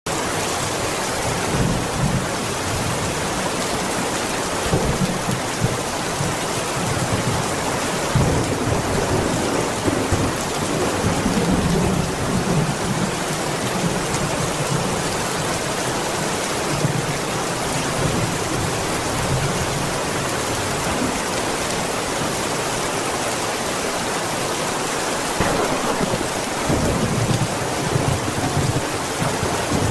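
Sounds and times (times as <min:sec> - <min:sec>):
heavy rain falling: 0:00.1 - 0:29.9.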